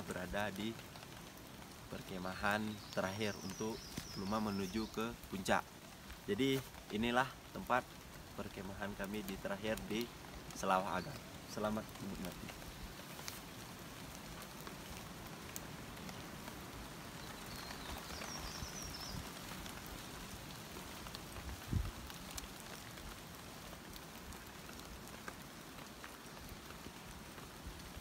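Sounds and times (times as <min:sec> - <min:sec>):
rain pattering on leaves: 0:00.0 - 0:28.0.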